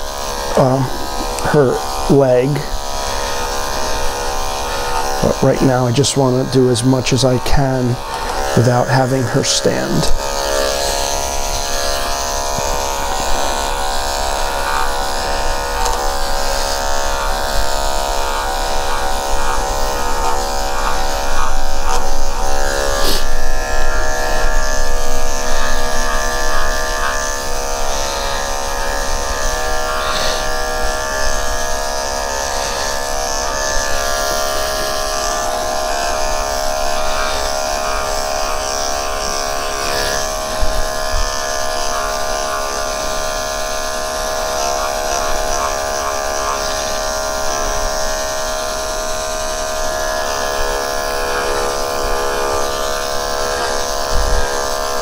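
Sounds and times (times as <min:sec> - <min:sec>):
electric clippers buzzing: 0:00.0 - 0:55.0.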